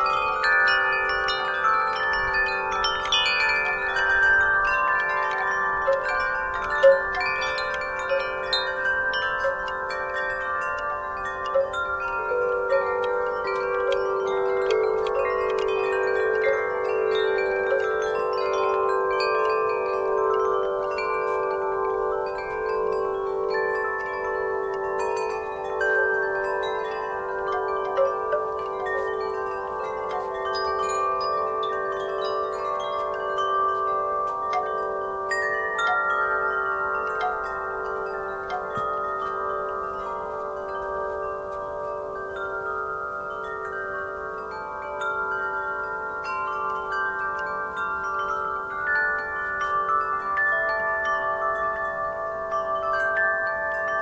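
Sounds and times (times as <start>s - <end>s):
wind chimes ringing: 0.0s - 54.0s.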